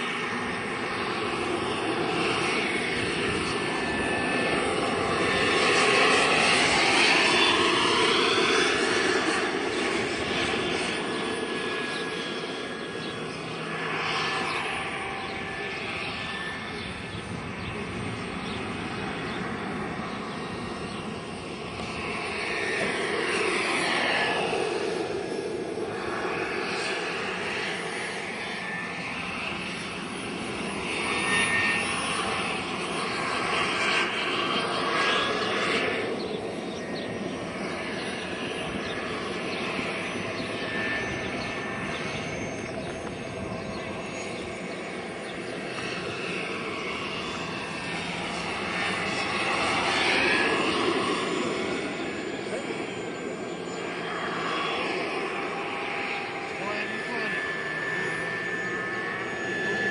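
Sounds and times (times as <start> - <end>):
gas turbine whine: 0.0 - 59.9
helicopter rotor rush: 0.0 - 59.9.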